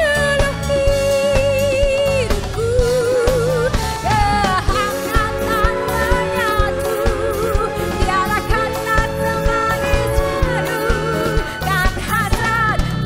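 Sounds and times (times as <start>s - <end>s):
string orchestra: 0.0s - 12.9s
band with drums and bass: 0.0s - 13.0s
woman singing pop: 0.0s - 13.0s.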